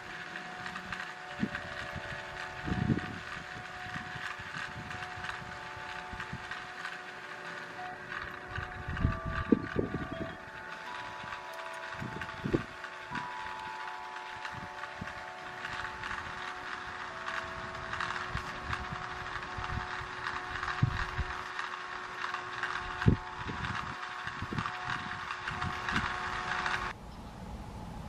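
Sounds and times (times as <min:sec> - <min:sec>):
held tones: 0:00.0 - 0:28.0
steady hiss: 0:00.0 - 0:28.0.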